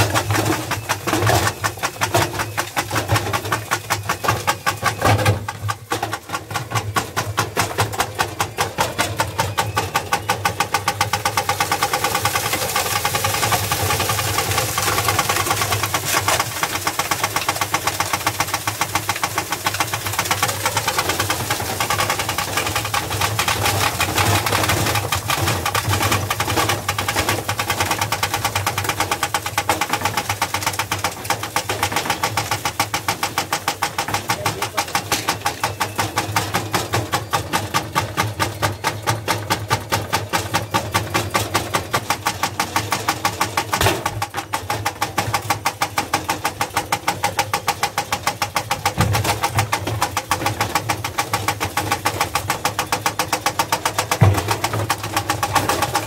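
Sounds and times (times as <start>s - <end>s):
washing machine rattling and knocking: 0.0s - 56.0s.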